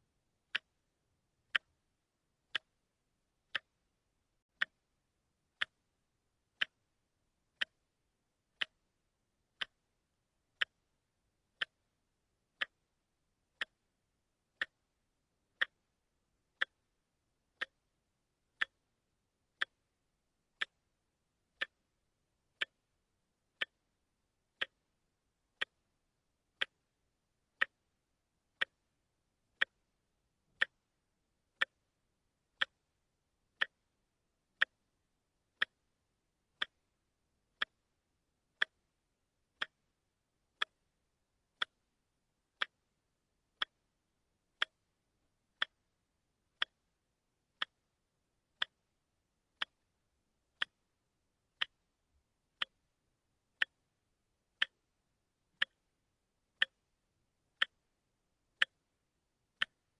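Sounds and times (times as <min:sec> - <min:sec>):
watch ticking: 0:00.4 - 0:59.0, 0:59.6 - 0:59.9.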